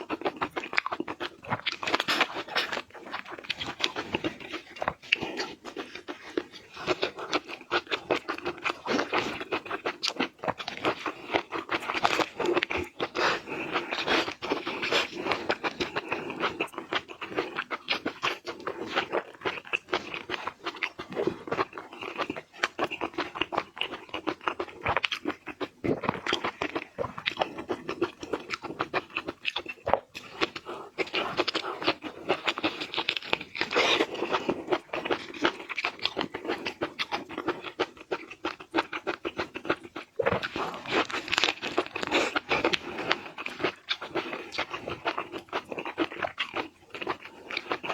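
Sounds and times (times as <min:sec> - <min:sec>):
crunching and chewing seafood: 0:00.0 - 0:47.9.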